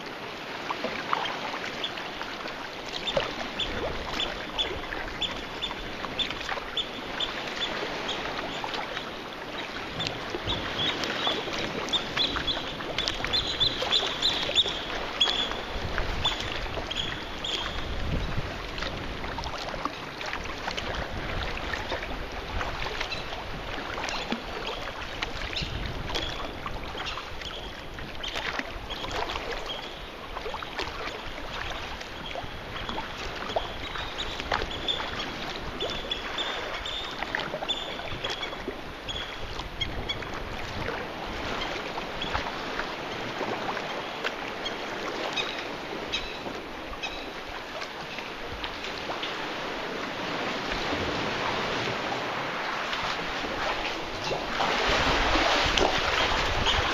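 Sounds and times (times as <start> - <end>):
water splashing and dripping: 0.0 - 38.8, 39.5 - 56.9
paddle blades dipping in water: 0.0 - 56.9
wind on microphone: 9.7 - 44.0, 44.8 - 56.9.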